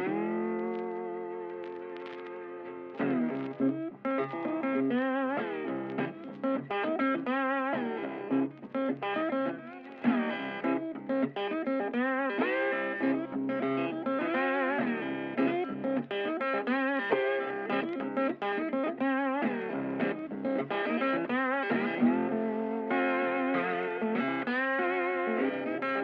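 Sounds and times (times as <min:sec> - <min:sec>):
electric guitar melody: 0:00.0 - 0:26.0.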